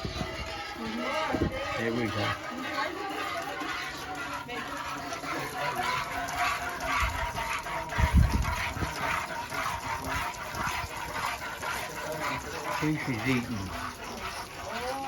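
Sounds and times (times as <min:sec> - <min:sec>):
milk squirting into a pail: 0:00.0 - 0:15.0.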